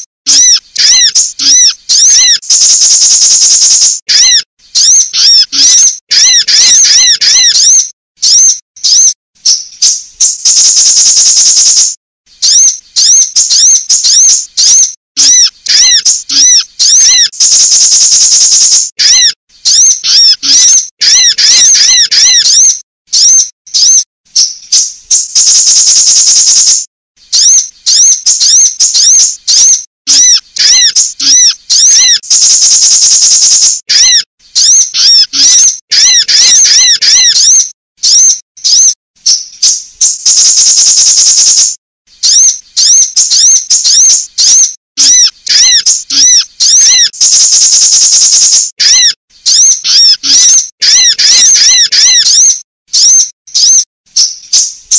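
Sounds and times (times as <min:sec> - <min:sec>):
high bird chirps: 0:00.0 - 0:54.9
long high bird trill: 0:00.3 - 0:54.8.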